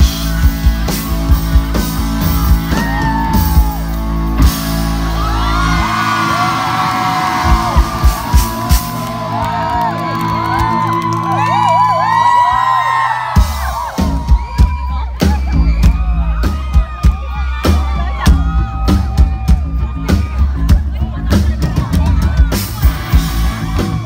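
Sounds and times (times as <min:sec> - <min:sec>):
fans screaming and whooping: 0:00.0 - 0:24.0
live rock band: 0:00.0 - 0:24.0.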